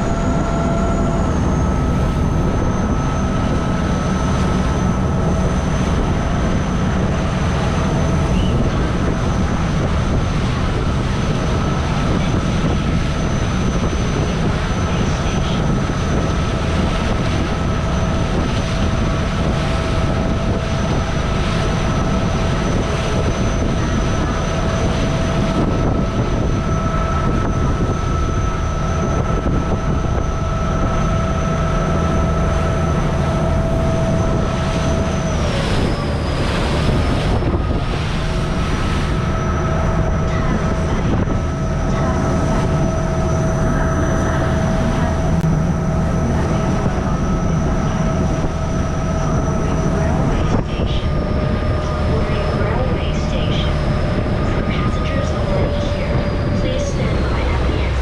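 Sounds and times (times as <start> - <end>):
boat engine rumbling and whining: 0.0 - 58.0.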